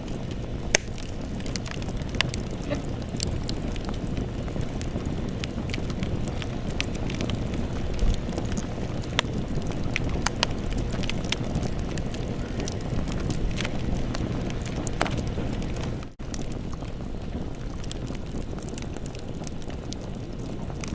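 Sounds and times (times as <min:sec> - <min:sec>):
campfire flames roaring: 0:00.0 - 0:20.9
wood crackling and popping: 0:00.0 - 0:20.9.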